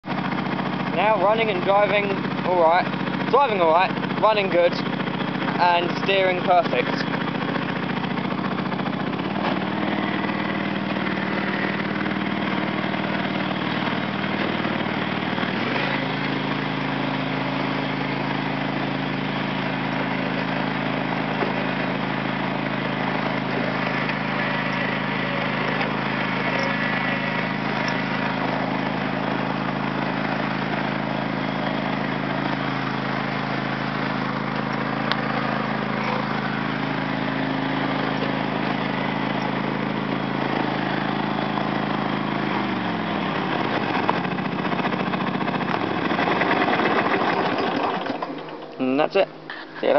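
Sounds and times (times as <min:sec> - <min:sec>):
lawn tractor engine running: 0:00.0 - 0:49.9.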